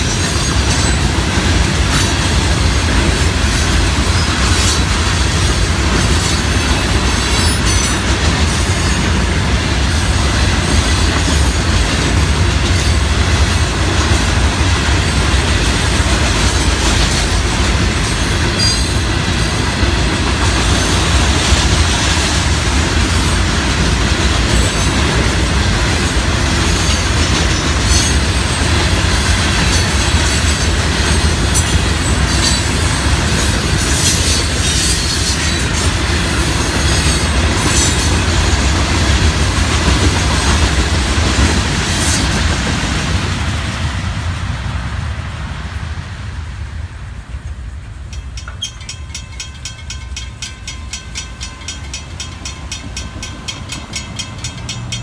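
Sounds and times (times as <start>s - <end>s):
crossing warning bell ringing: 0.0s - 41.4s, 48.1s - 55.0s.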